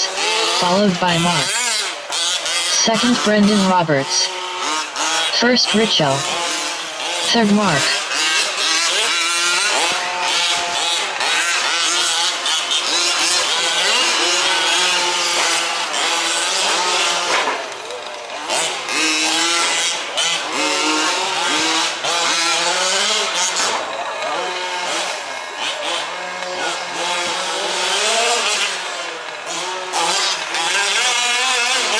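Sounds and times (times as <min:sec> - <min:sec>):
small two-stroke engines revving: 0:00.0 - 0:31.9.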